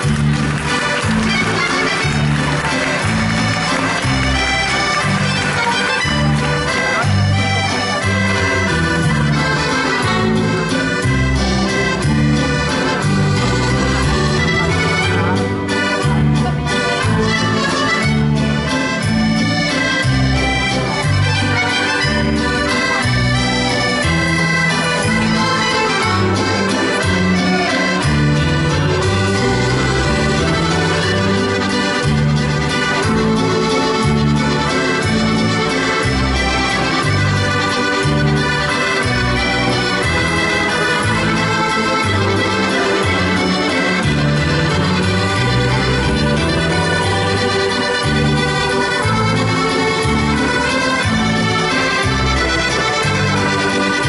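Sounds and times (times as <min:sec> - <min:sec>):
accordions playing a tune: 0:00.0 - 0:54.0.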